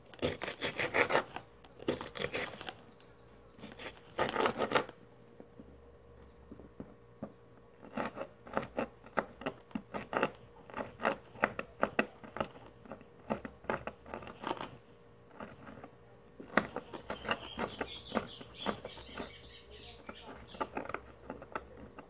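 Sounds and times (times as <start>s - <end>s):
knife chopping vegetable: 0.0s - 2.8s, 3.6s - 5.0s, 6.8s - 22.0s.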